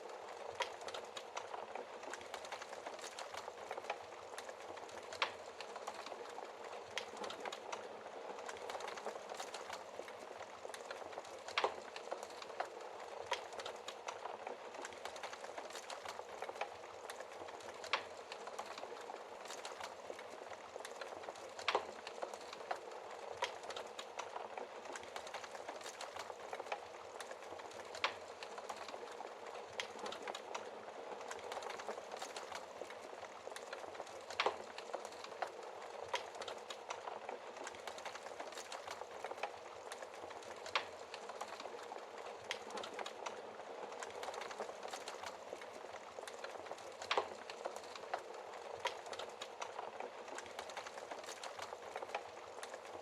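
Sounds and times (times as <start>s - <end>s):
burning wood crackles and pops: 0.0s - 53.0s.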